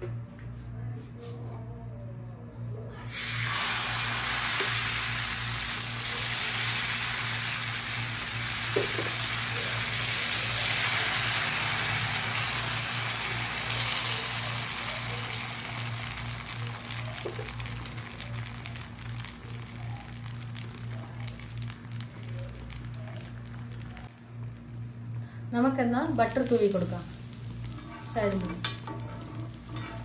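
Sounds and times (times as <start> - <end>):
batter sizzling on a griddle: 3.1 - 30.0.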